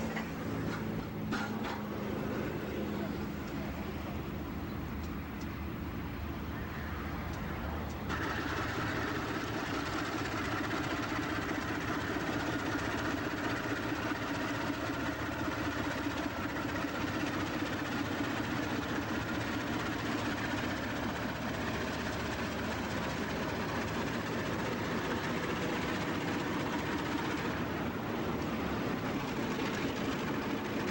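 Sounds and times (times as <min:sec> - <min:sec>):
freight train rumbling: 0:00.0 - 0:30.9.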